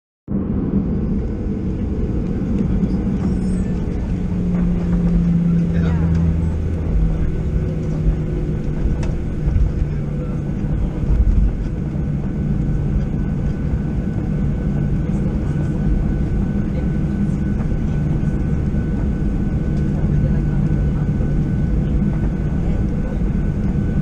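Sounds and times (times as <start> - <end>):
jet engines humming and whining: 0.3 - 24.0.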